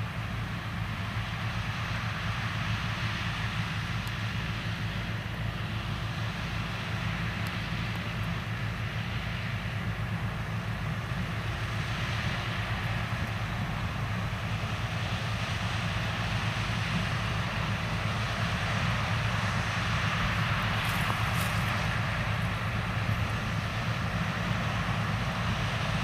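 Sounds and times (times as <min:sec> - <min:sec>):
diesel farm machinery running: 0:00.0 - 0:26.0.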